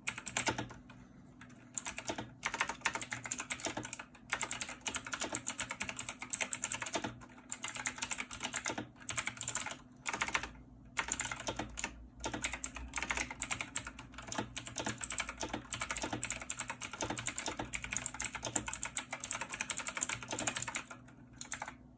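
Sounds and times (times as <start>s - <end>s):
mechanical keyboard typing: 0.0s - 21.8s.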